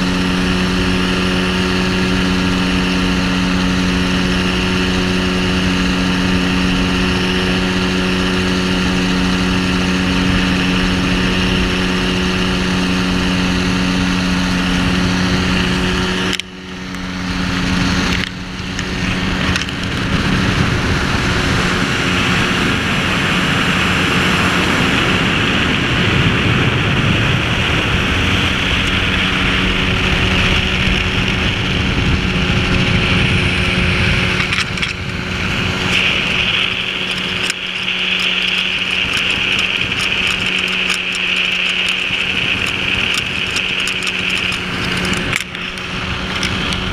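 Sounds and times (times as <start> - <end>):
engine and propeller droning: 0.0 - 46.9
wind rushing over microphone: 0.0 - 46.9.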